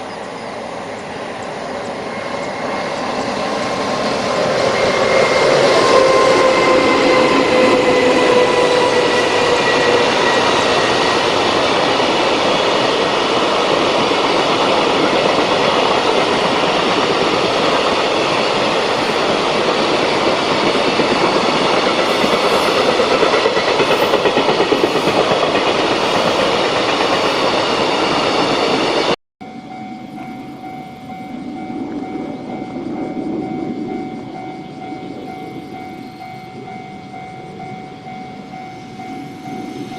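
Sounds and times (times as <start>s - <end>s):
electric locomotive whine: 0.0s - 39.9s
train wagons running on rails: 0.0s - 39.9s.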